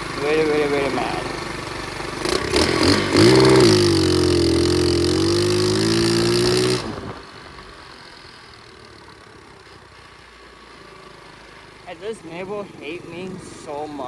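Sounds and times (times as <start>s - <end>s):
pit bike engine revving: 0.0s - 14.0s.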